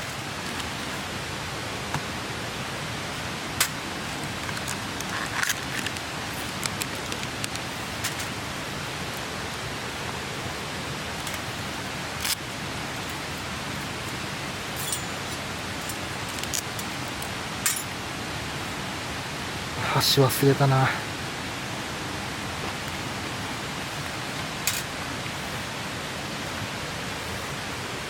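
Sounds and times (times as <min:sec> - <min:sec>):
rushing mountain stream: 0:00.0 - 0:28.0.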